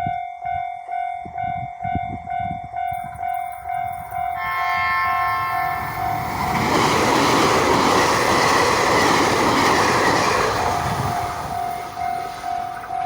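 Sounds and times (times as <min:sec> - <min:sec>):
level crossing warning bell: 0:00.0 - 0:13.0
train wheel and rail noise: 0:00.0 - 0:13.0.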